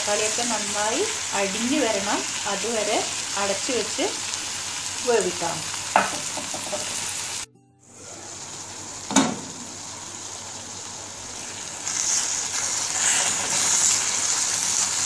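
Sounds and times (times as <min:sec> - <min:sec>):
vegetables sizzling in a metal pan: 0:00.0 - 0:15.0.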